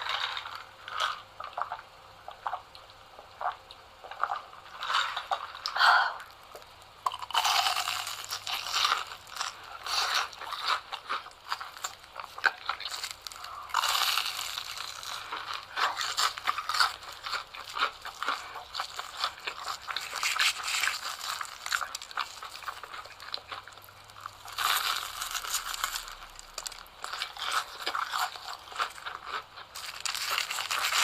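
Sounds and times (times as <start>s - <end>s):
crunching and chewing cheese sticks: 0.0s - 31.0s.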